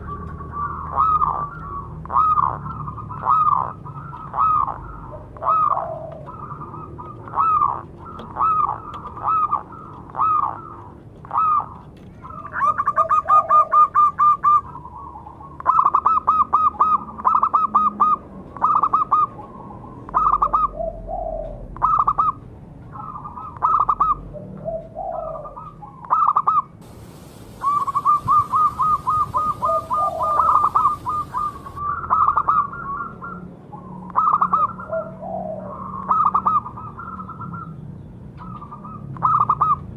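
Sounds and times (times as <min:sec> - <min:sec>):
dove cooing: 0:00.0 - 0:22.4, 0:23.0 - 0:37.7.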